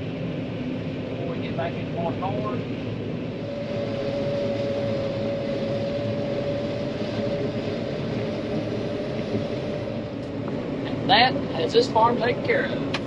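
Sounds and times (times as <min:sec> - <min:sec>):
combine harvester drone: 0:00.0 - 0:13.0
steady machine whine: 0:00.0 - 0:13.0.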